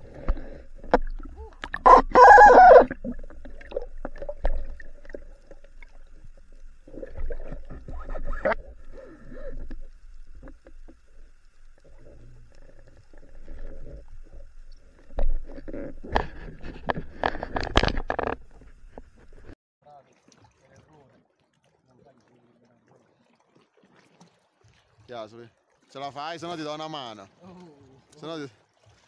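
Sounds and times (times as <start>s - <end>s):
muffled underwater water movement: 0.0s - 26.1s.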